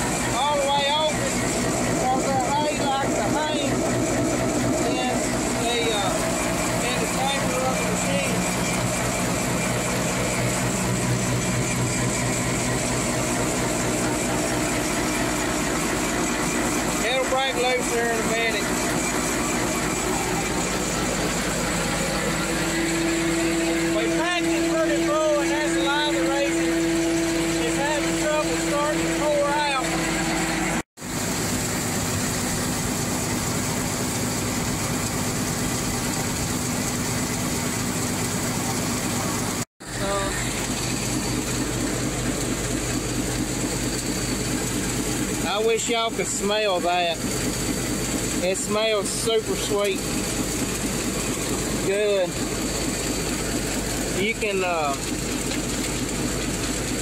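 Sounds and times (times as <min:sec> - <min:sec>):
engine hum: 0:00.0 - 0:57.0
feed pouring from auger spout: 0:00.0 - 0:57.0
grinder mixer droning: 0:00.0 - 0:57.0.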